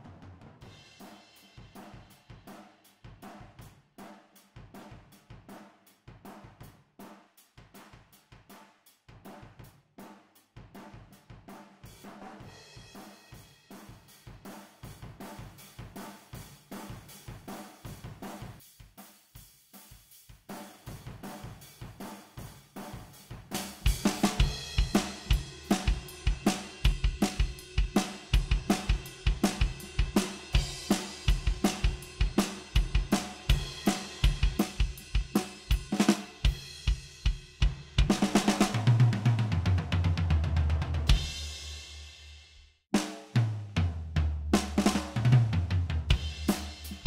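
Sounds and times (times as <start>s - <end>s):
drum kit groove: 0.0s - 47.0s.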